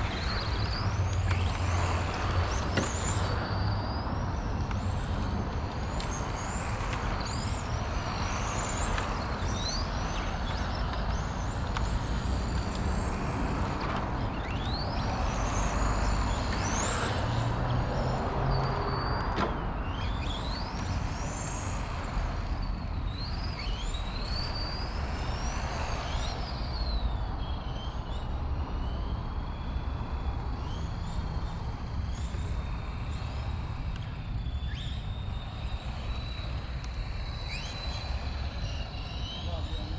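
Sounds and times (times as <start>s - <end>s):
rc car motor whine: 0.0s - 39.9s
steady rushing noise: 0.0s - 39.9s.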